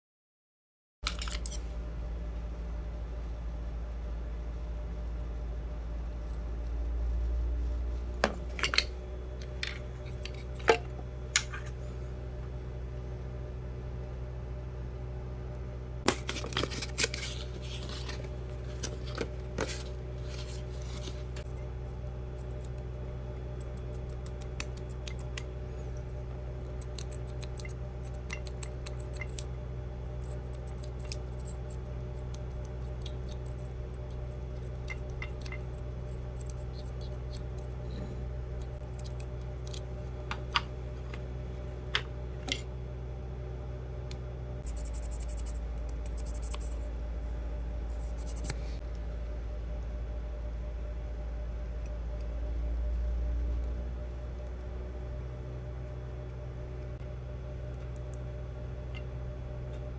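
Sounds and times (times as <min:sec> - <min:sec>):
steady low hum: 0:01.0 - 0:59.9.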